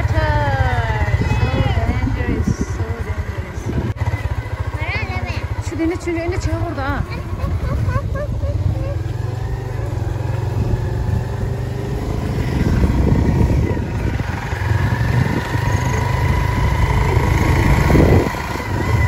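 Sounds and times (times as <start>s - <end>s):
wind rushing over microphone: 0.0s - 4.4s, 6.8s - 19.0s
motorcycle engine running: 0.0s - 19.0s.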